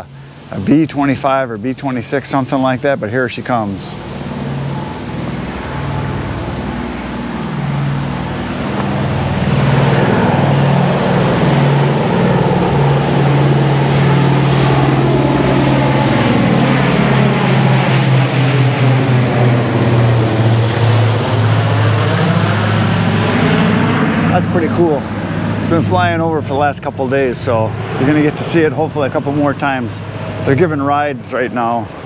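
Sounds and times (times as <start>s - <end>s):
propeller plane droning overhead: 0.0s - 32.0s.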